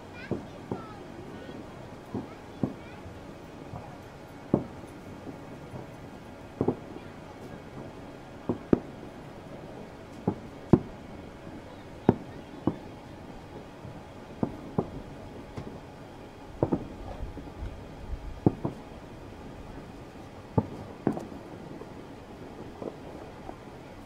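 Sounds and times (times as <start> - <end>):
fireworks banging: 0.0 - 24.0.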